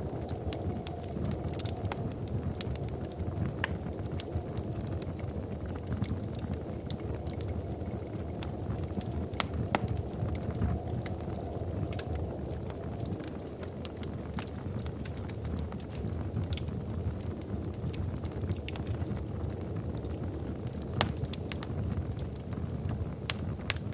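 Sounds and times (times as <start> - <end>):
fire roaring: 0.0 - 23.9
wood crackles and pops: 0.0 - 23.9.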